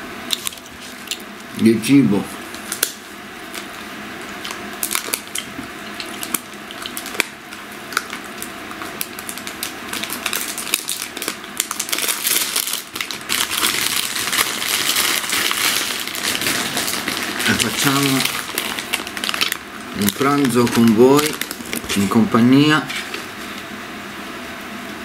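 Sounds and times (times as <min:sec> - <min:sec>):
crinkling and crunching: 0:02.5 - 0:23.7.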